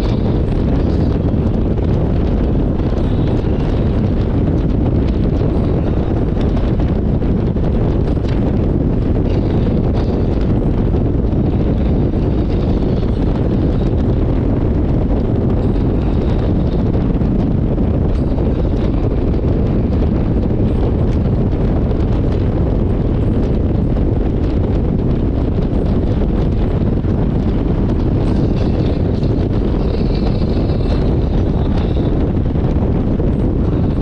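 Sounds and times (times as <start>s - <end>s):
motorcycle running and road noise: 0.0s - 34.0s
wind rushing over microphone: 0.0s - 34.0s.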